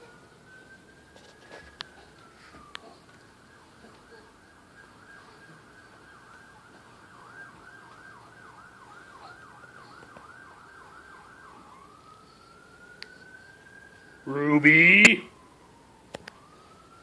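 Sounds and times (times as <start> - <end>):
emergency vehicle siren: 0.0 - 17.0.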